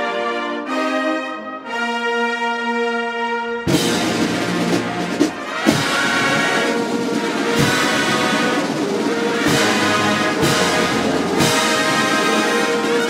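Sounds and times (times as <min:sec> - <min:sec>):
brass band playing sustained chords: 0:00.0 - 0:13.0.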